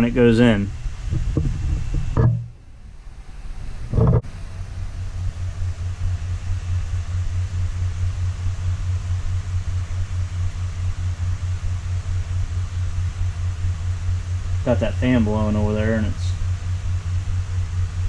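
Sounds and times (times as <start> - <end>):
electric fan blowing: 0.0 - 18.0.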